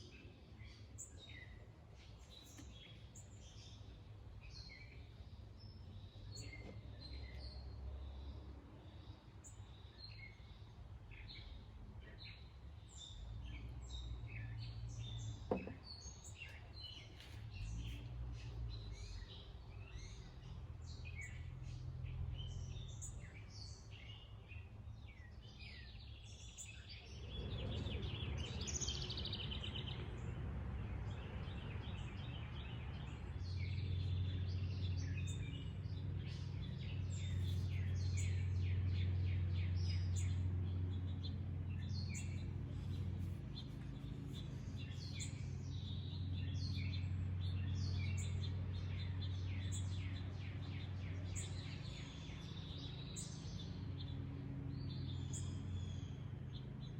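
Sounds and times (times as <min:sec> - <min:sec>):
songbirds chirping and trilling: 0:00.0 - 0:56.9.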